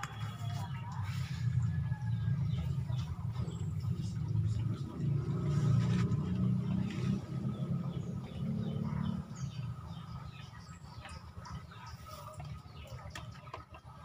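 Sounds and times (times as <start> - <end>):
low engine rumble: 0.0 - 14.0
small birds chirping: 0.0 - 14.0.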